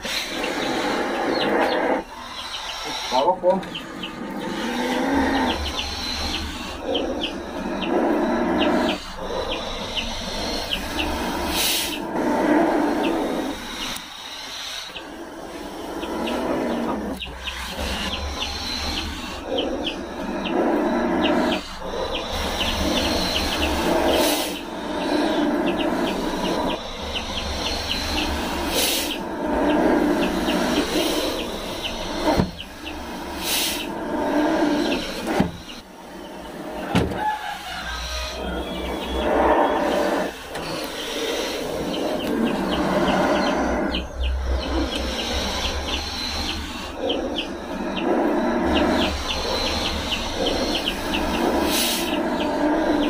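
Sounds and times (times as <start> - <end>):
snakes hissing growls: 0.0 - 53.0.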